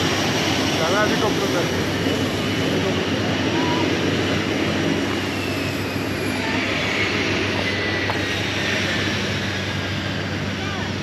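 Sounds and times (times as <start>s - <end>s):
faint high whine: 0.0s - 11.0s
propeller engines droning: 0.0s - 11.0s.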